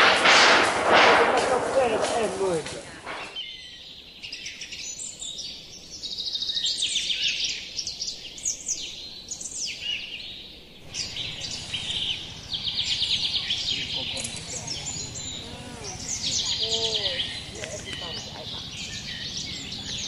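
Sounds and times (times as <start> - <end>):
birds singing: 1.8 - 20.0.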